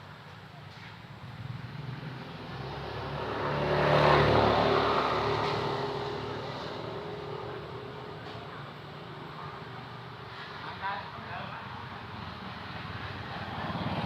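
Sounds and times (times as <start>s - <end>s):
motor vehicle passing by: 0.7s - 10.8s, 11.6s - 14.0s.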